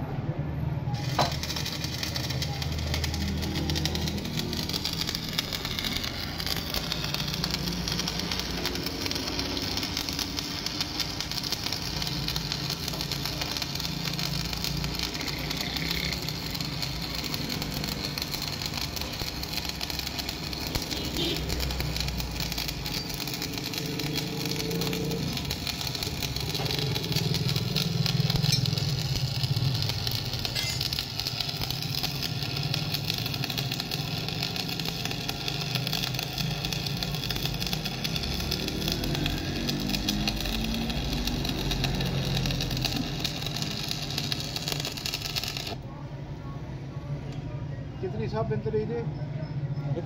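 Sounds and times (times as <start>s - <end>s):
arc welding crackling sizzle: 0.9s - 45.9s.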